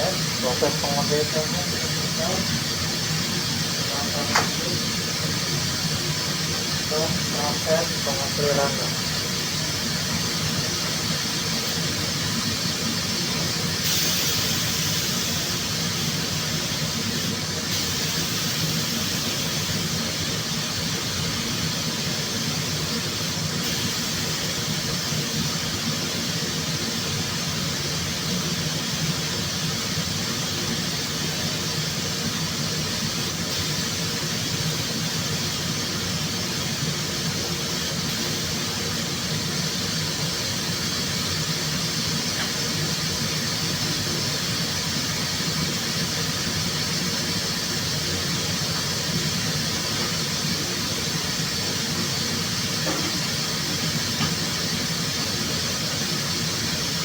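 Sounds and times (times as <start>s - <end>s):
workshop equipment hum and hiss: 0.0s - 57.0s.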